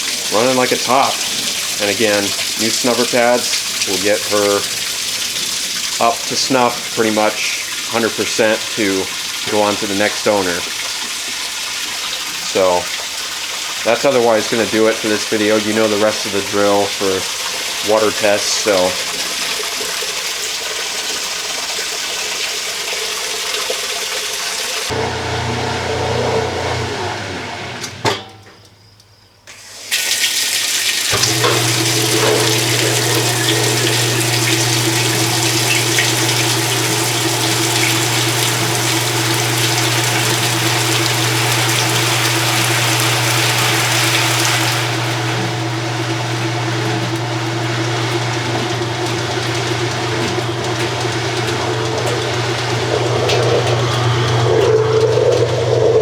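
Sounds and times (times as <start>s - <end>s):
washing machine motor hum: 0.0s - 21.8s, 24.8s - 28.5s, 31.0s - 56.0s
water splashing: 0.0s - 25.0s, 29.8s - 56.0s
water rushing into washer tub: 0.0s - 28.2s, 29.5s - 56.0s.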